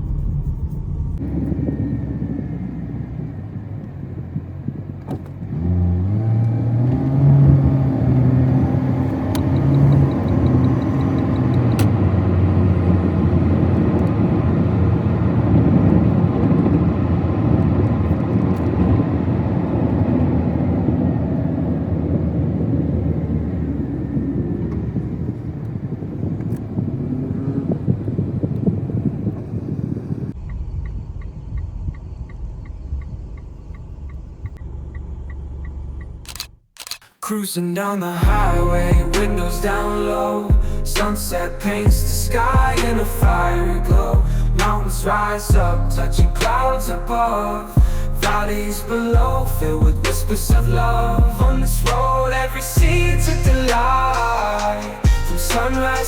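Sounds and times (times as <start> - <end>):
car engine: 0.0 - 37.0, 38.2 - 56.0
road noise: 0.0 - 37.1, 38.2 - 56.0.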